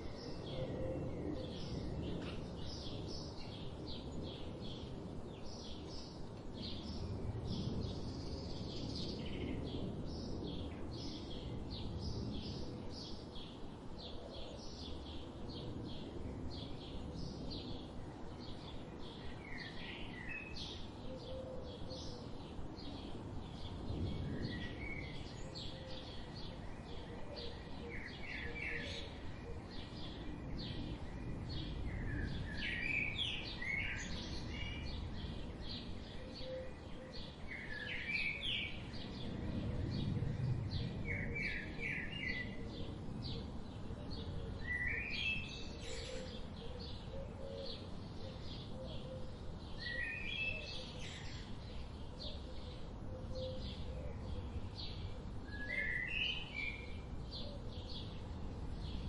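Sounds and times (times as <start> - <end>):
bird singing song phrases: 0.0 - 59.0.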